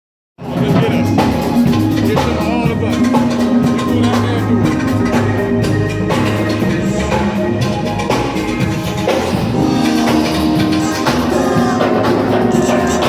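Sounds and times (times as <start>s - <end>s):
drum kit steady beat: 0.4s - 13.0s.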